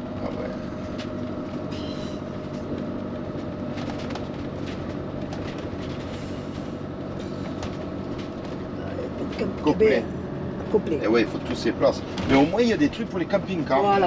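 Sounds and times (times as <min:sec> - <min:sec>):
engine and road drone: 0:00.0 - 0:14.0.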